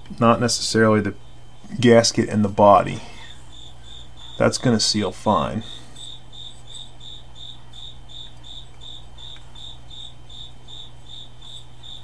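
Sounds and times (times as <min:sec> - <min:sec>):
low steady hum: 0:00.0 - 0:12.0
cricket chirping: 0:00.9 - 0:12.0.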